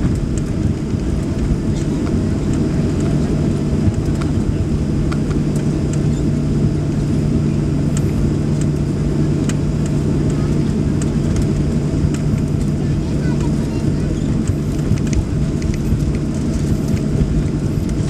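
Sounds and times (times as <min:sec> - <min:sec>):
jet engines low rumble: 0:00.0 - 0:18.0
low hum: 0:00.0 - 0:18.0.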